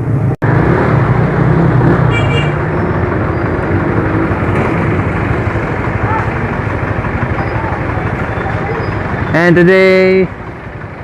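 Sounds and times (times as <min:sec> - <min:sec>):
scooter engine humming: 0:00.0 - 0:11.0
wind and road noise: 0:00.0 - 0:11.0.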